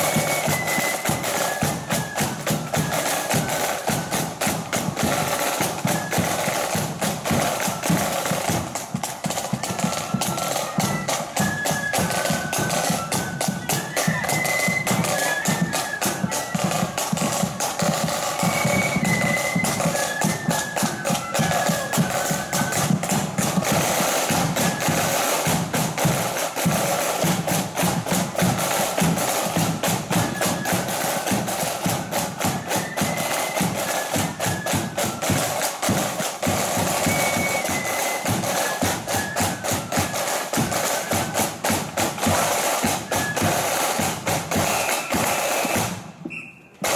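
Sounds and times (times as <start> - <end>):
crisp snare drumming: 0.0 - 46.9
flutes playing melody: 0.0 - 46.9.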